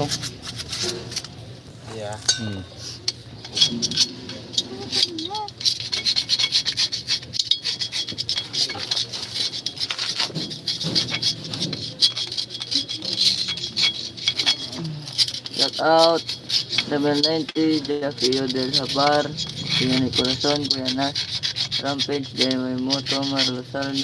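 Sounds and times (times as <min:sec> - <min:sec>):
hand tool scraping metal: 0:00.0 - 0:24.0.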